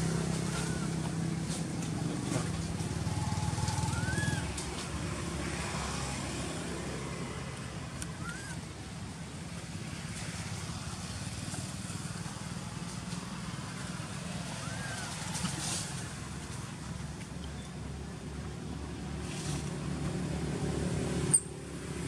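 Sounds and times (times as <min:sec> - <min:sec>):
motor engine rumbling: 0:00.0 - 0:22.0.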